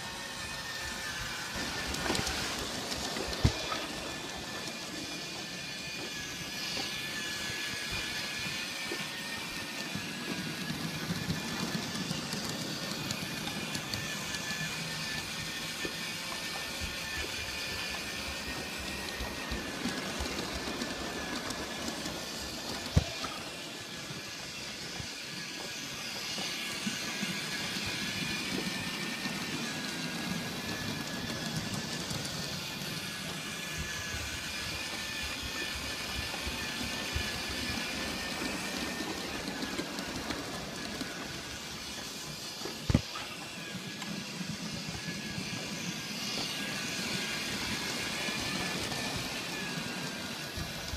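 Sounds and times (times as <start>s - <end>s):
model train motor whine: 0.0s - 50.9s
wheels ticking on rails: 0.0s - 50.9s.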